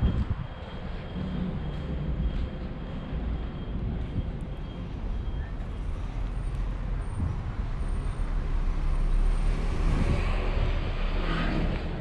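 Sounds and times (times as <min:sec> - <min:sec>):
vehicle passing with low rumble: 0:00.0 - 0:12.0.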